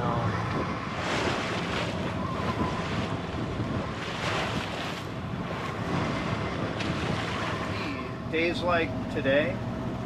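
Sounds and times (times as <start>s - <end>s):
waves rushing against boat: 0.0s - 10.0s
wind buffeting microphone: 0.0s - 10.0s.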